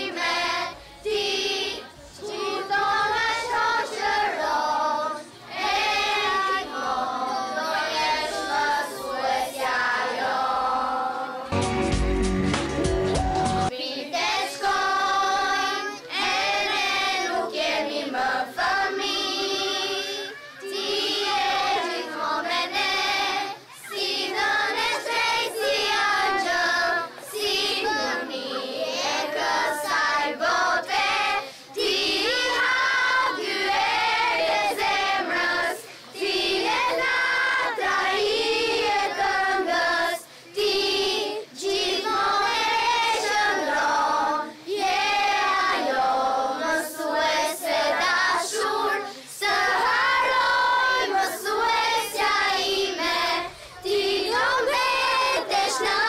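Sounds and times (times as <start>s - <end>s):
children singing together: 0.0s - 11.6s, 13.2s - 56.0s.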